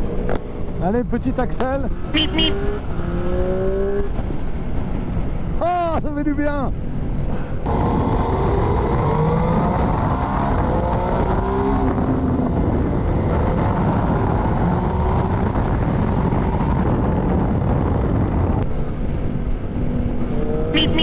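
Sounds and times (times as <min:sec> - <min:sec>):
motorcycle engines accelerating: 0:00.0 - 0:05.6, 0:07.6 - 0:21.0.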